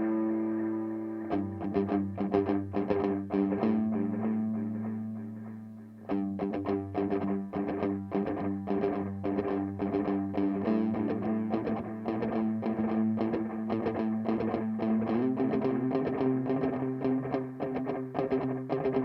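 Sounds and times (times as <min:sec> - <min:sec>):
electric guitar with delay: 0:00.0 - 0:19.0.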